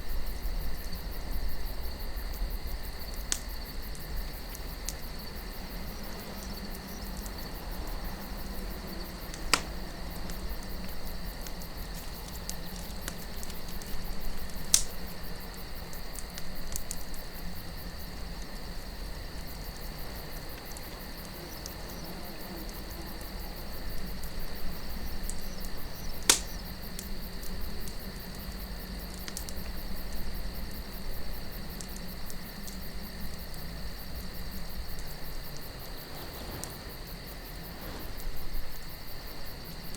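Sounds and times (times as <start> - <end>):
campfire crackling and popping: 0.0 - 39.9
insects chirring: 0.0 - 39.9
low wind rumble: 0.0 - 39.9.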